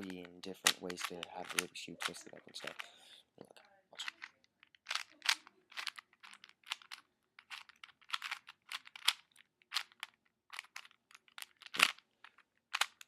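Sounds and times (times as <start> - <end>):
puzzle cube twisting clicks: 0.0 - 2.9, 4.0 - 13.0.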